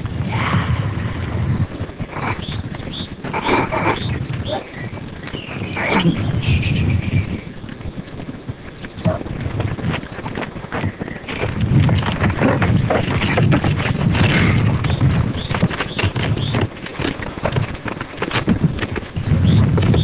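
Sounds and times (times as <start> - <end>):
microphone handling noise: 0.0 - 20.0
wind rumble on microphone: 0.0 - 20.0.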